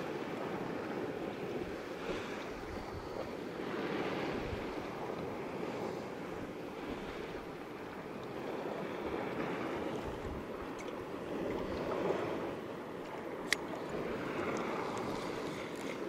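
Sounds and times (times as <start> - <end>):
water lapping against kayak hull: 0.0 - 16.0
wind on microphone: 0.0 - 16.0.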